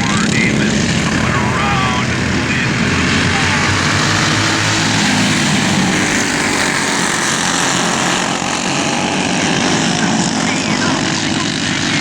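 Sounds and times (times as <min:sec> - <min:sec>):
racing kart engines running: 0:00.0 - 0:12.0.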